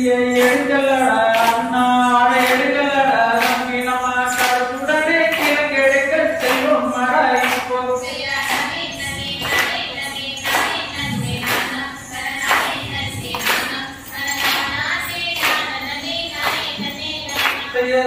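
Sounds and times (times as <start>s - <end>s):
group singing folk song: 0.0s - 18.0s
hand claps: 0.2s - 17.9s.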